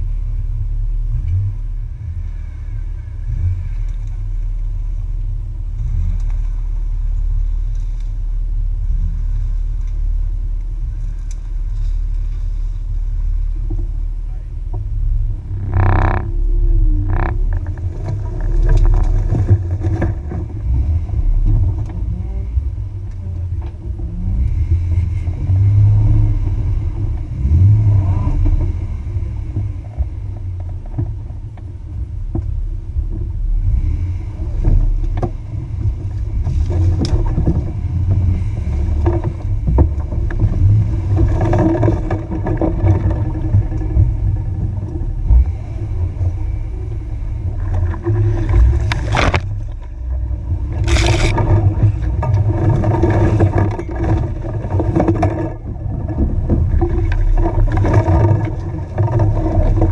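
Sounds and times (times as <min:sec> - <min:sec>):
engine rumbling at low revs: 0:00.0 - 0:59.9
brush scraping vehicle sides: 0:01.1 - 0:14.1, 0:14.7 - 0:31.4, 0:33.6 - 0:59.9.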